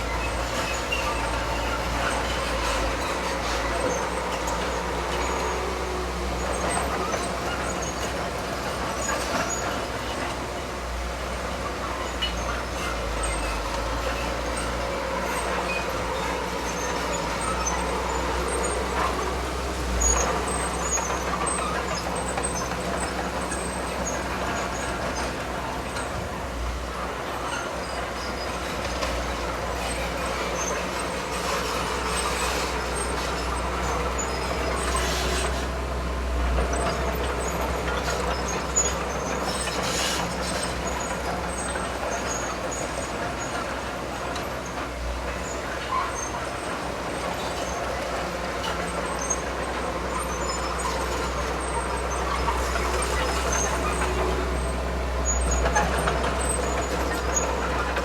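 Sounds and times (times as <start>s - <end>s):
diesel engine rumbling: 0.0s - 58.0s.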